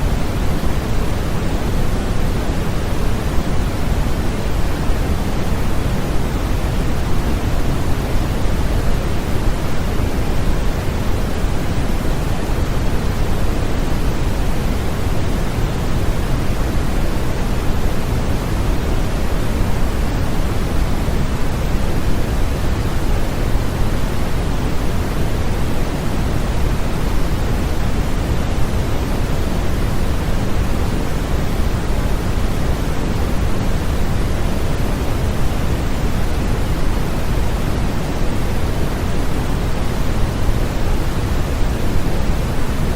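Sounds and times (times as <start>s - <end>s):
steady pink noise: 0.0s - 42.9s.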